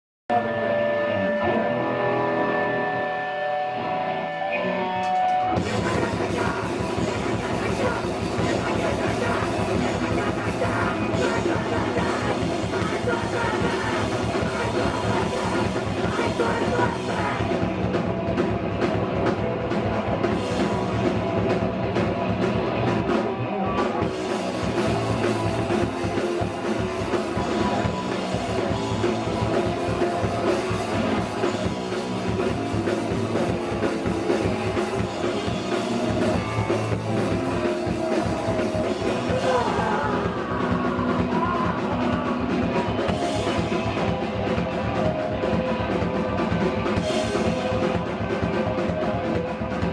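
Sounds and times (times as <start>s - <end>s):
punk band playing live: 0.3s - 49.9s.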